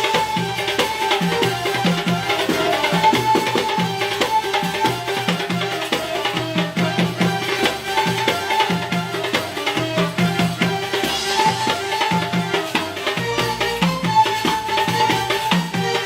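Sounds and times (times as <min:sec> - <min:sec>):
fast hand drum rhythm: 0:00.0 - 0:16.0
held melody notes: 0:00.0 - 0:16.0.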